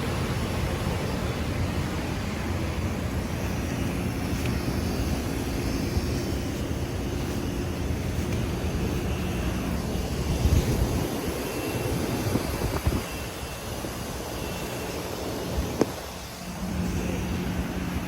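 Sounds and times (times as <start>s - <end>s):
fan air whoosh: 0.0s - 18.0s
low compressor hum: 0.0s - 18.0s.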